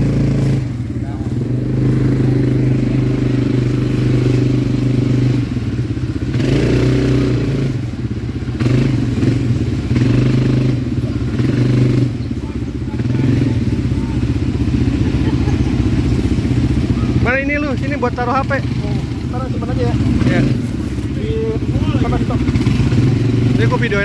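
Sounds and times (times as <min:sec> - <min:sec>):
atv engine idling and revving: 0:00.0 - 0:24.0.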